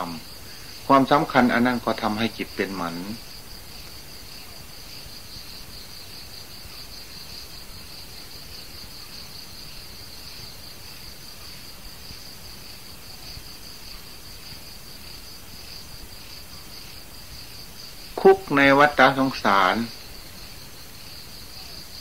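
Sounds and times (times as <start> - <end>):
background hiss: 0.0 - 22.0
insects trilling: 0.0 - 22.0.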